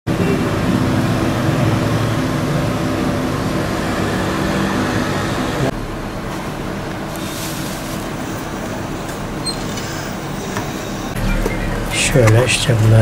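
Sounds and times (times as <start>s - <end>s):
low mechanical rumble and hum: 0.1s - 13.0s.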